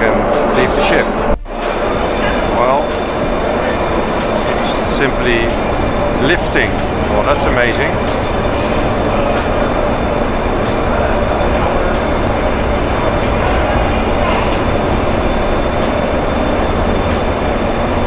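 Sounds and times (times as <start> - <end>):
high machinery whines: 0.0 - 18.0
lift platform machinery hum: 0.0 - 18.0.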